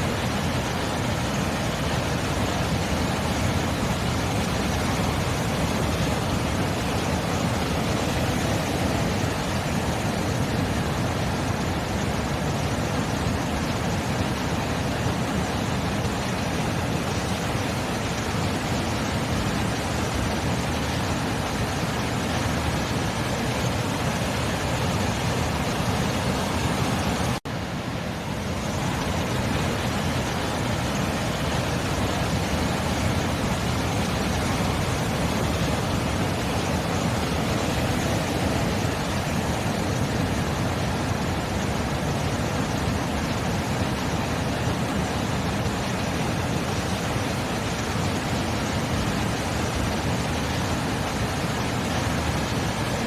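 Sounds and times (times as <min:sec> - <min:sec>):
sea waves washing: 0:00.0 - 0:53.0.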